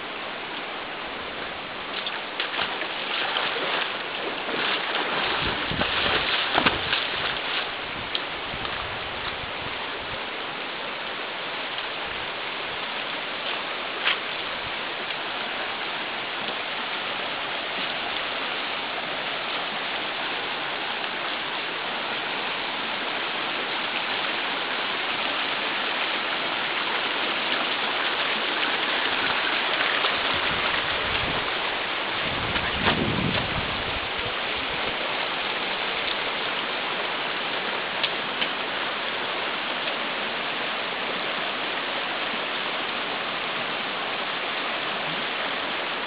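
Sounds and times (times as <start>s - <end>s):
river flowing: 0.0s - 46.0s.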